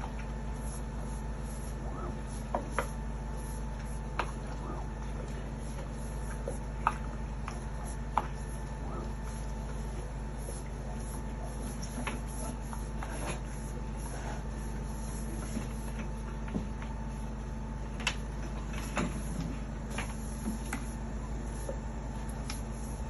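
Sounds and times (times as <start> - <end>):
drain jetter humming: 0.0 - 23.0.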